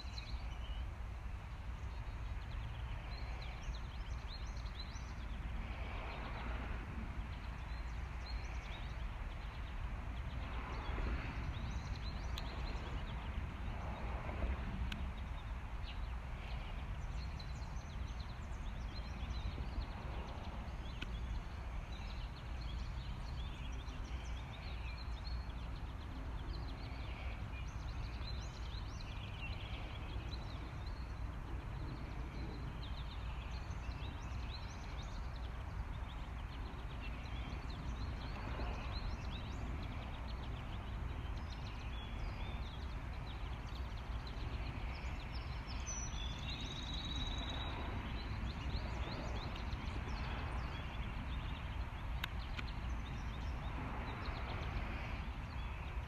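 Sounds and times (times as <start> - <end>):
low wind rumble: 0.0 - 56.0.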